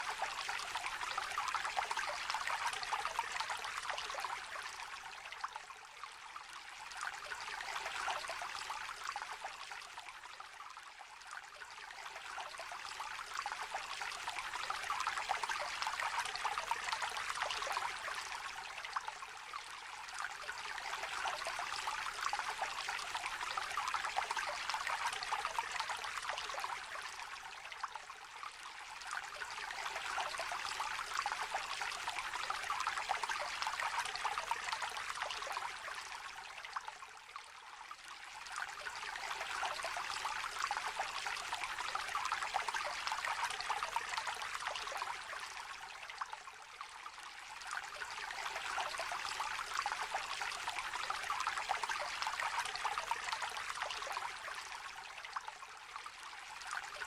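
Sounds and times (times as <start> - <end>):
river trickling and babbling: 0.0 - 57.0.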